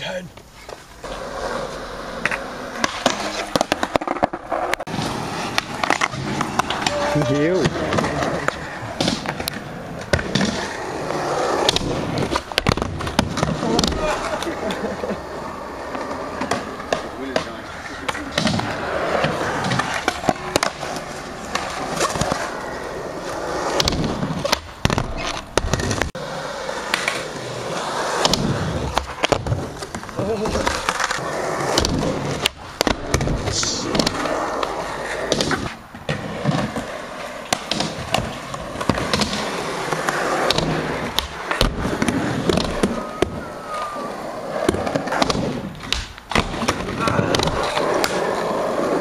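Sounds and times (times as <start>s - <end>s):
skateboard wheels rolling on concrete: 0.0s - 49.0s.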